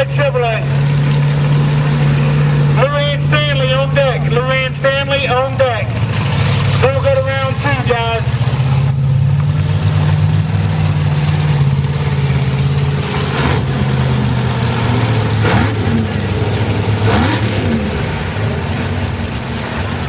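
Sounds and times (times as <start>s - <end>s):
truck engine idling and revving: 0.0s - 20.0s.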